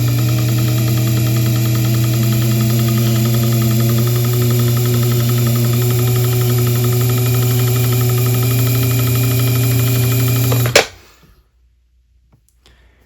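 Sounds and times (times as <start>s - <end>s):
lathe motor humming: 0.0s - 10.8s.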